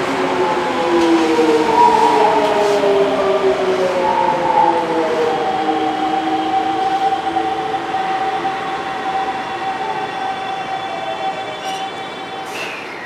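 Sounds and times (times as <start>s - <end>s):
train inverter whining: 0.0s - 13.0s
wheel and rail rumble: 0.0s - 13.0s.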